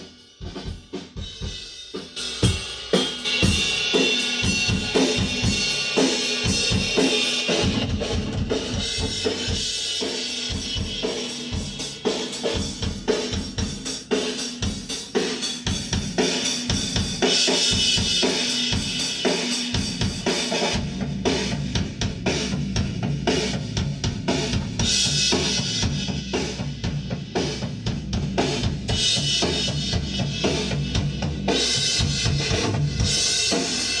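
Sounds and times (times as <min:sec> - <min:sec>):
rock drum kit playing: 0:00.0 - 0:34.0.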